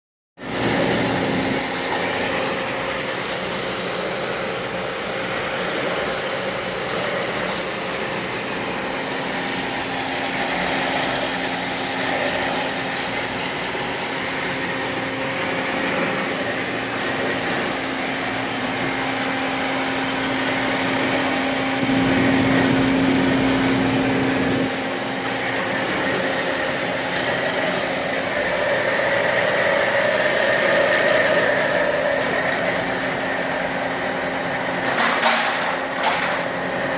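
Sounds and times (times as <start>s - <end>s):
metal-cutting band saw running: 0.4s - 36.9s.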